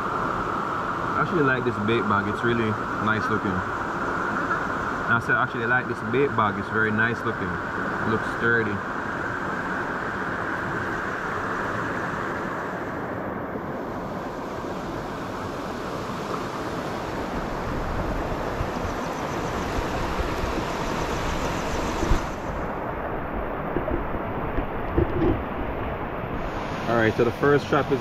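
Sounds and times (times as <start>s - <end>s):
river water over rocks: 0.0s - 28.0s.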